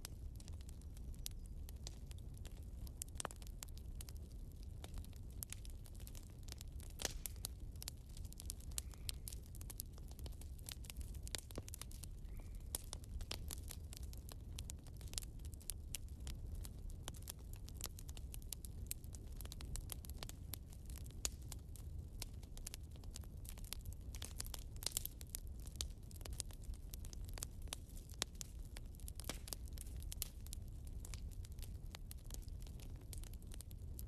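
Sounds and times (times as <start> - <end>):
log fire crackling and popping: 0.0 - 34.0.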